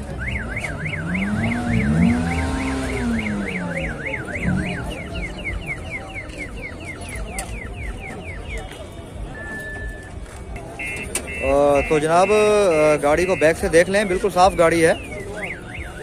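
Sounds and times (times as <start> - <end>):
car alarm siren: 0.0 - 10.2, 10.8 - 16.0.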